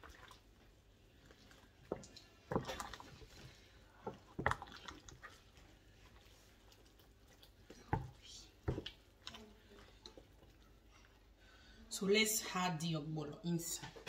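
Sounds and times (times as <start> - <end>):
liquid in a pot: 0.0 - 12.0.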